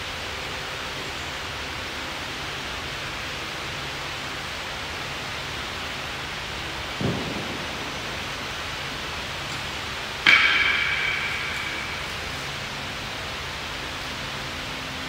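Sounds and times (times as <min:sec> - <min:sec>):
room noise hiss: 0:00.0 - 0:15.0.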